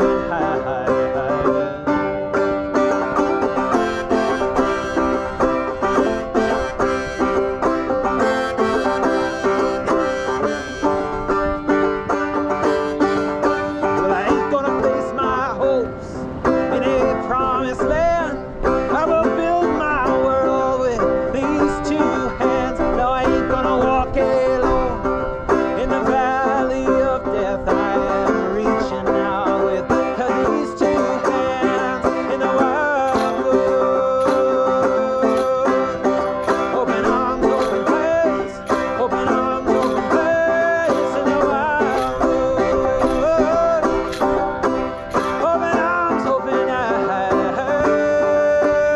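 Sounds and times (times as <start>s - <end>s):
banjo picking folk music: 0.0s - 48.9s.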